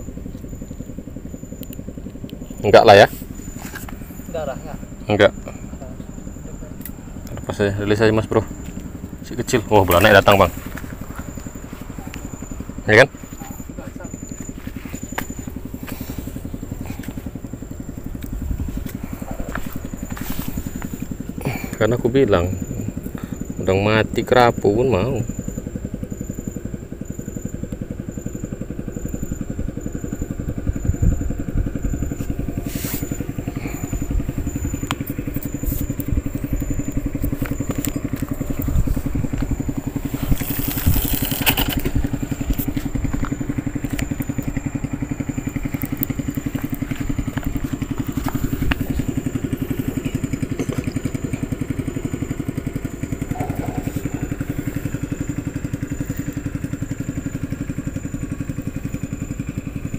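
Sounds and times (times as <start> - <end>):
small engine idling: 0.0 - 59.9.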